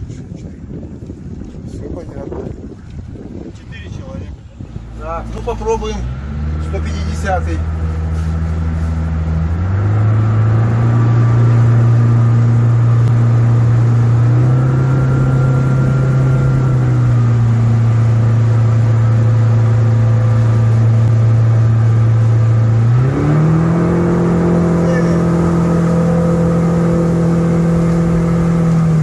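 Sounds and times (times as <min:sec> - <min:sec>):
outboard motor at speed: 0:00.0 - 0:29.0.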